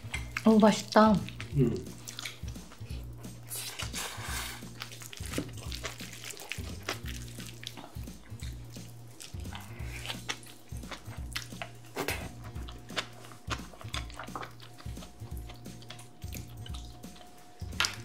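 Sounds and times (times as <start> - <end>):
rice and vegetables squishing: 3.4 - 18.0.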